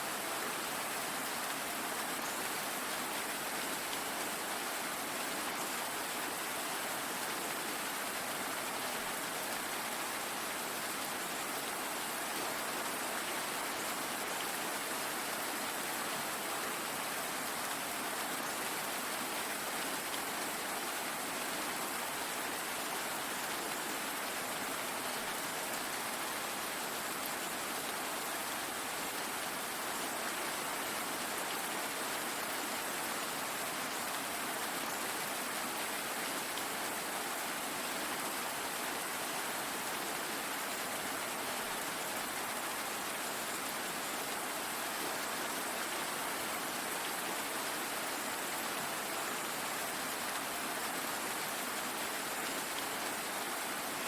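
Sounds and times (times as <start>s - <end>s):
rain falling: 0.2s - 54.0s.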